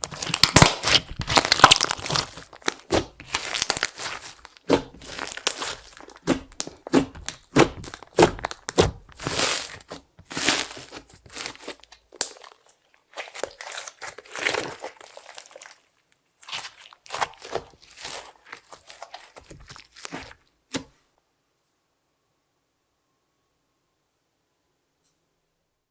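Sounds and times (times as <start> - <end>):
slime squishing and popping: 0.0 - 20.9.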